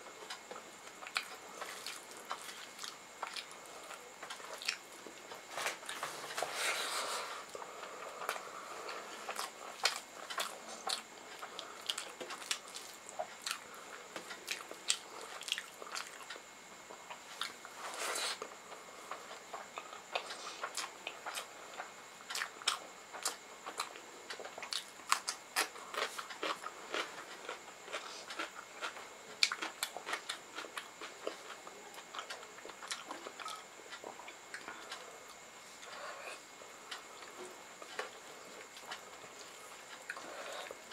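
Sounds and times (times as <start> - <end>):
faint high-pitched whine: 0.0 - 40.9.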